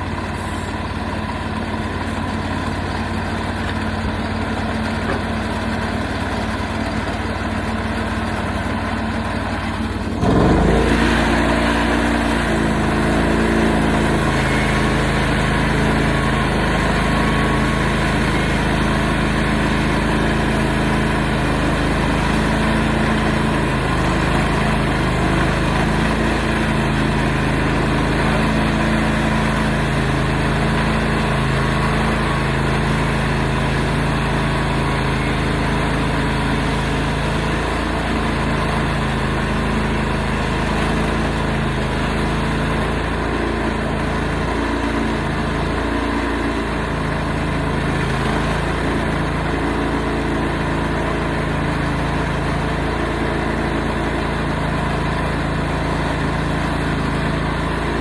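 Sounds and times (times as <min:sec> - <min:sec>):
sawmill engine revving: 0:00.0 - 0:58.0.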